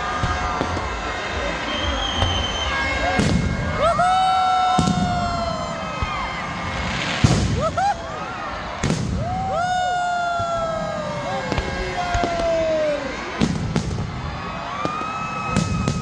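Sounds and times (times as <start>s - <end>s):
crowd chatter: 0.0s - 16.0s
firework bangs: 0.0s - 16.0s
whistling firework shells: 0.0s - 16.0s.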